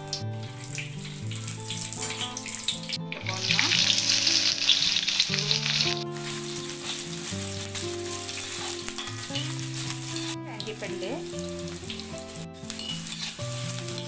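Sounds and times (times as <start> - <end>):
background music: 0.0 - 14.0
onions sizzling in hot oil: 0.0 - 14.0
spoon stirring: 0.5 - 14.0.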